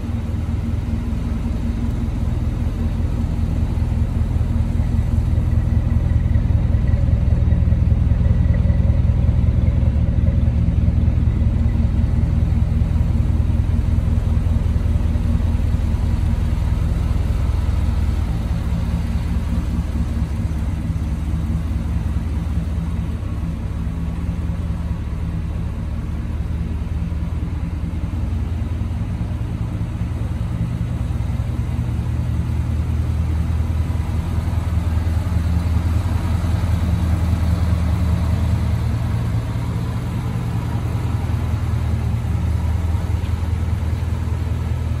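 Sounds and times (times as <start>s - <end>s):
pickup engine idling: 0.0s - 45.0s.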